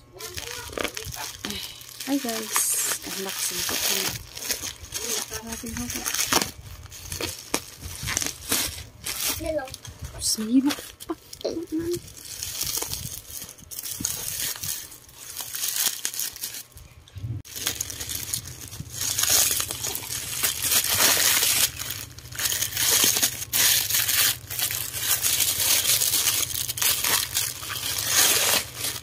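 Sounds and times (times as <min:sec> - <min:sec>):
plastic packaging crinkling: 0:00.1 - 0:16.9, 0:17.5 - 0:29.0.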